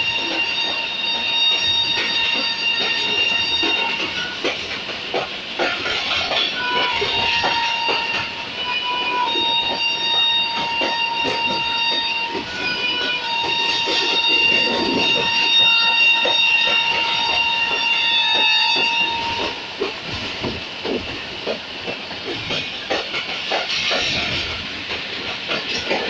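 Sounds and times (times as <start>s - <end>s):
wheels clattering over rail joints: 0.0s - 8.4s, 9.3s - 26.0s
train coach rumbling: 0.0s - 26.0s
train wheels squealing on rails: 0.0s - 26.0s.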